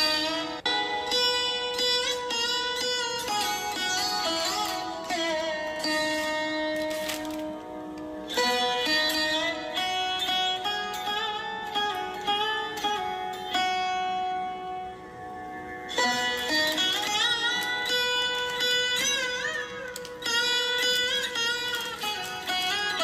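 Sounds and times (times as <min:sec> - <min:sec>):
plucked string melody: 0:00.0 - 0:23.0.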